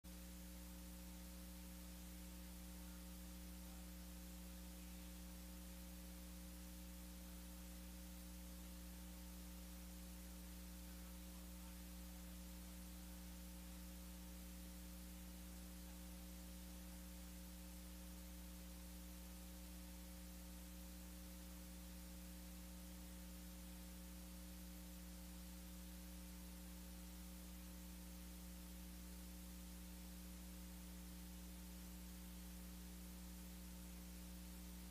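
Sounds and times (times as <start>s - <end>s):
electrical mains hum: 0.0s - 34.9s
faint hiss: 0.1s - 34.9s.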